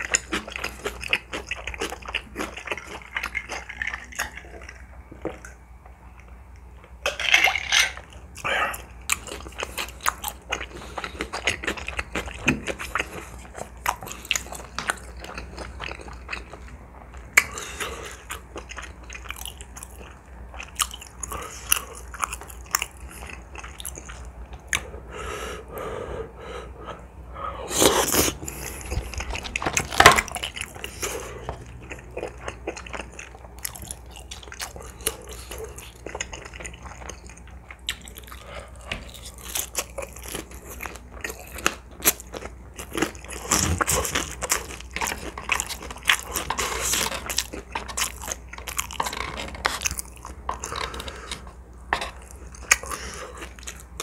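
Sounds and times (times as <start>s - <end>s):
person chewing wetly: 0.0s - 6.4s, 8.0s - 24.9s, 27.8s - 54.0s
food crunching: 0.0s - 24.9s, 27.7s - 54.0s.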